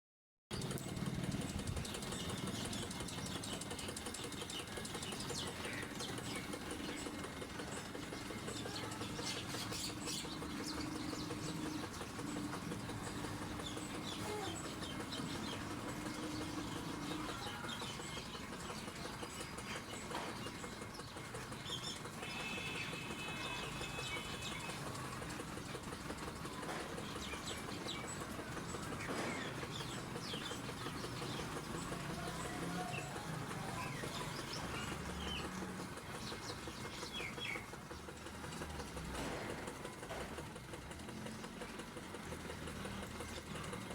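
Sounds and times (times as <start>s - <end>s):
birds calling: 0.6s - 43.9s.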